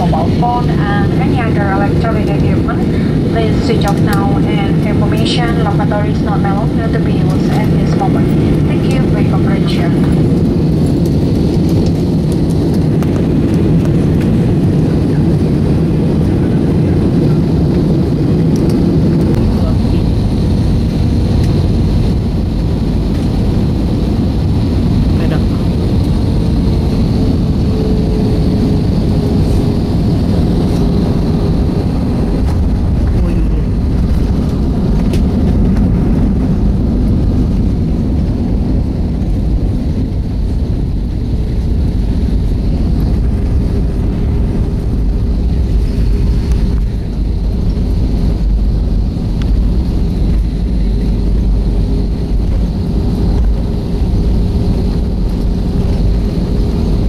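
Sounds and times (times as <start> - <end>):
airliner engine rumble: 0.0 - 57.0
steady cabin hum: 0.0 - 57.0.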